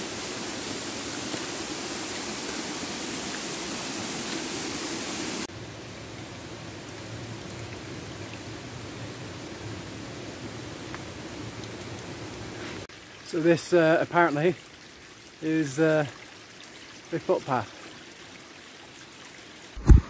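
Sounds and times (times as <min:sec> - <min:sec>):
rushing water: 0:00.0 - 0:19.8.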